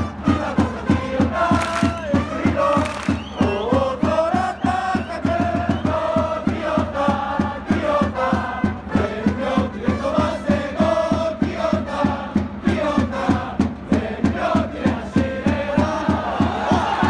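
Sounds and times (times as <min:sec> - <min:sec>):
crowd chanting in unison: 0:00.0 - 0:17.0
steady drumbeat: 0:00.0 - 0:17.0.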